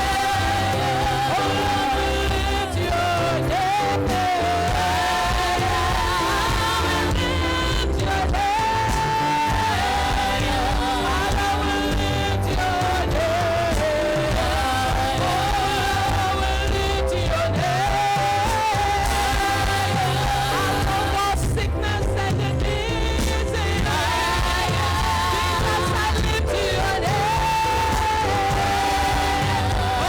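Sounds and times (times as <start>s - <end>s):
band with bass and drums: 0.0s - 30.0s.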